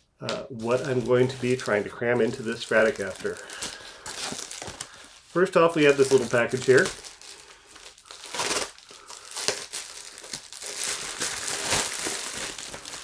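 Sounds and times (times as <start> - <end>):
packaging pouch crinkling and tearing: 0.5 - 13.0.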